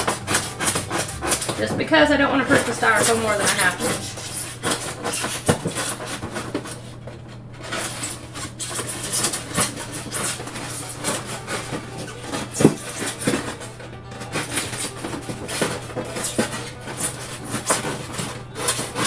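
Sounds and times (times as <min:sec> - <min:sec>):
knife cutting styrofoam: 0:00.0 - 0:19.0.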